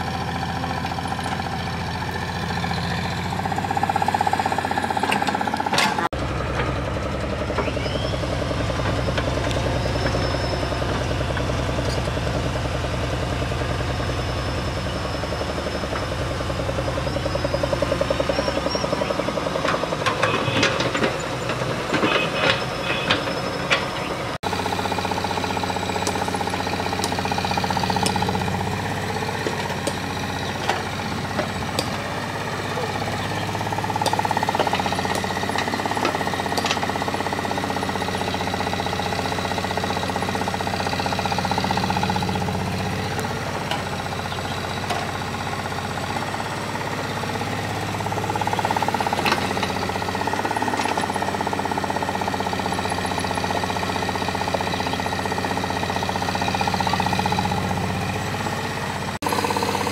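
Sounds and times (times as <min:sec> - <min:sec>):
excavator diesel engine: 0:00.0 - 0:59.9.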